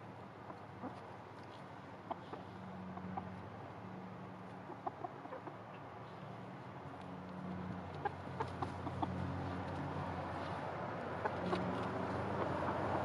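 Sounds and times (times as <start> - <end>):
chickens clucking softly: 0.1 - 13.0.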